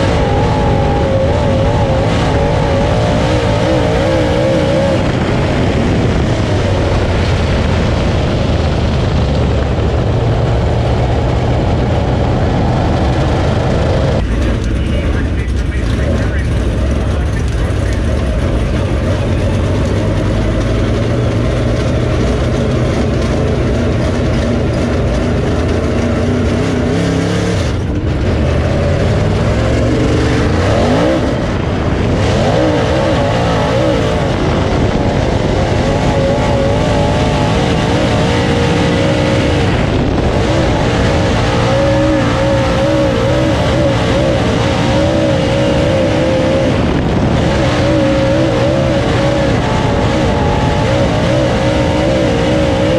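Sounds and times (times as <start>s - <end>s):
race car engine running: 0.0s - 52.9s.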